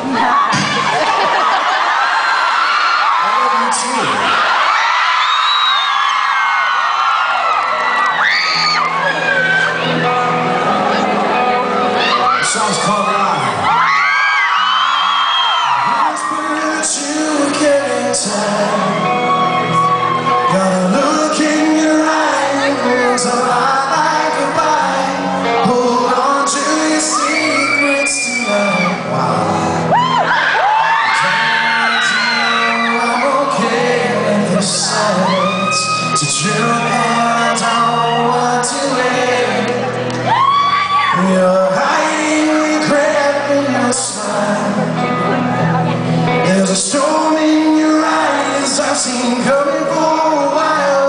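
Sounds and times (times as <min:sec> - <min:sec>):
crowd whooping and cheering: 0:00.0 - 0:51.0
live rock band playing: 0:07.1 - 0:51.0.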